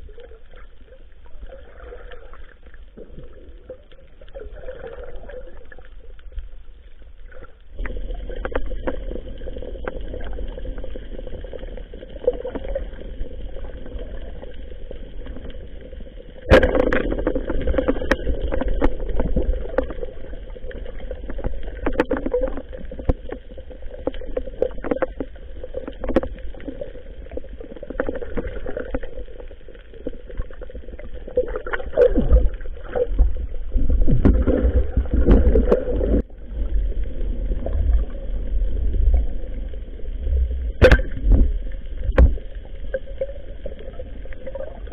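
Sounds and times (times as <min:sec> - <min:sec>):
water rushing underwater: 0:00.0 - 0:44.9.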